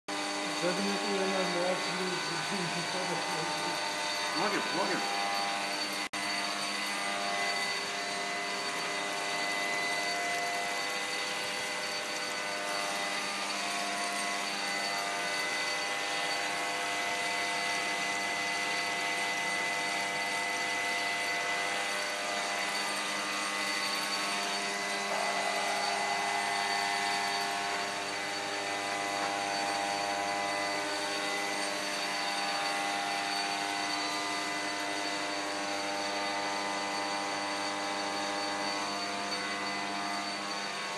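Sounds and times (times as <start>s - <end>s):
electric motor whine: 0.1s - 40.9s.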